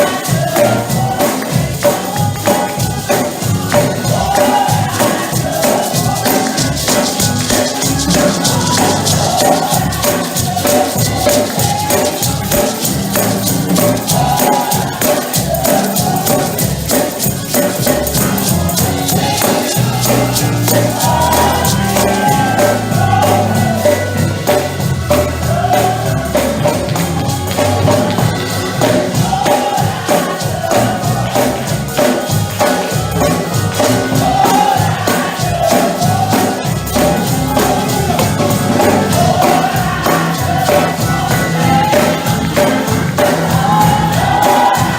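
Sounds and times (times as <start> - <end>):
bass line: 0.0 - 44.9
choir singing gospel: 0.0 - 44.9
tambourine rhythm: 0.0 - 44.9.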